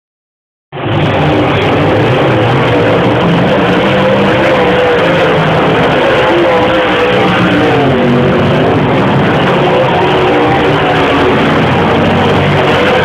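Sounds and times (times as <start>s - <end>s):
race car engines revving: 0.8s - 13.0s.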